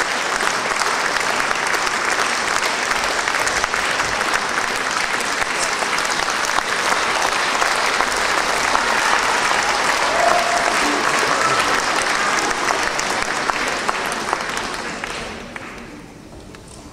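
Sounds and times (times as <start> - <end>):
large audience applauding: 0.0 - 16.2.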